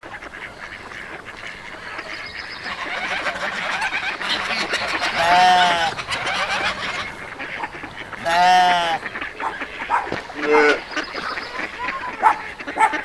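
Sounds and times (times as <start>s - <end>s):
small birds chirping: 0.0s - 13.0s
loud drawn-out animal call: 2.6s - 13.0s.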